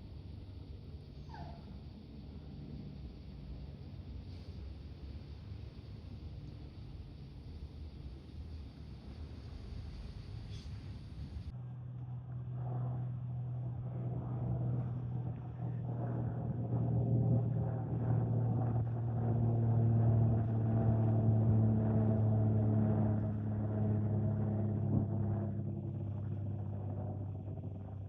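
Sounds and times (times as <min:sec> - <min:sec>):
aircraft engine drone: 0:00.0 - 0:28.0.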